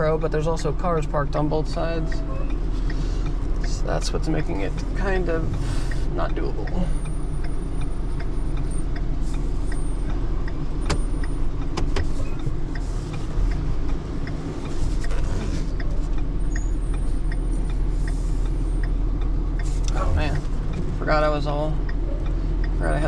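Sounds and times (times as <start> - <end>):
truck engine idling: 0.0 - 23.0
indicator flasher ticking: 0.9 - 23.0.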